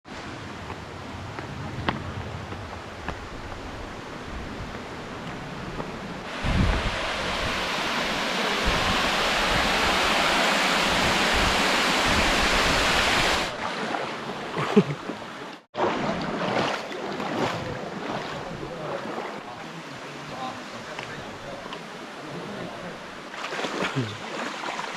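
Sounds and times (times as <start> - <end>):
water rushing: 1.2 - 24.9.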